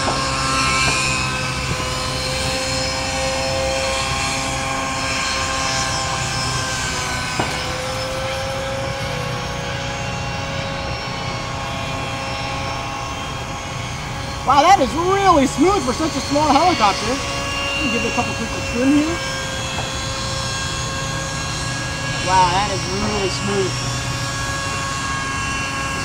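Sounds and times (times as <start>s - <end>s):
model helicopters whining: 0.0s - 26.0s.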